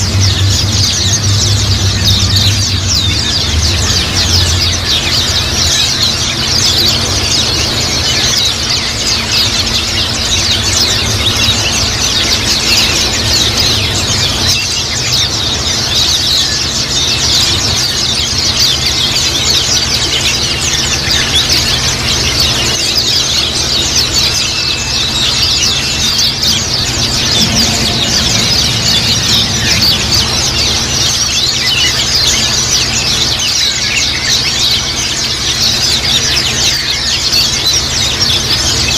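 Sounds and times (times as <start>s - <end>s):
flock of birds chattering: 0.0s - 38.9s
steady low hum: 0.0s - 38.9s.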